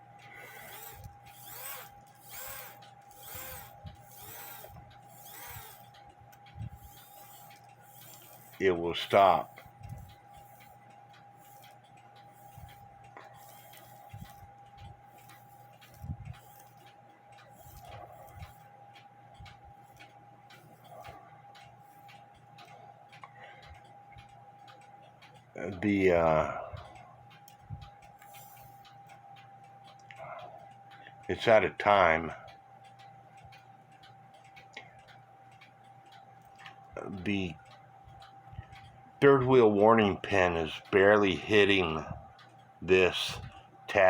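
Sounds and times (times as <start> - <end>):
clock ticking: 0.0 - 44.0.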